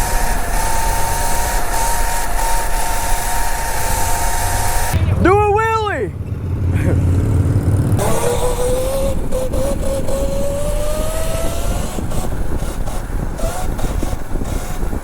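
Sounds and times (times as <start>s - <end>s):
dirt bike engine accelerating: 0.0s - 15.0s.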